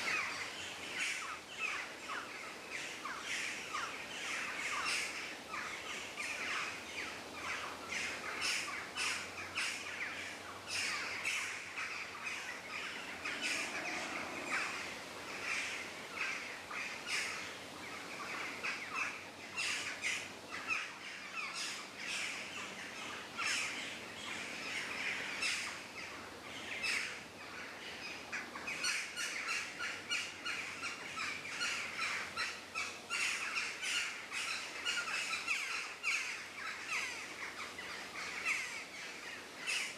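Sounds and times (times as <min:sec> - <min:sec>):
birds chirping: 0:00.0 - 0:39.9
light hiss: 0:00.0 - 0:39.9.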